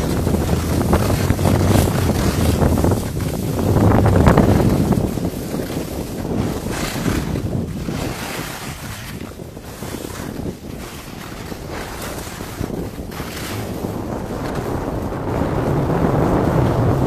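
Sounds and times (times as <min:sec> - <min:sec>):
skis hissing on snow: 0:00.0 - 0:15.1
wind on microphone: 0:00.0 - 0:17.0.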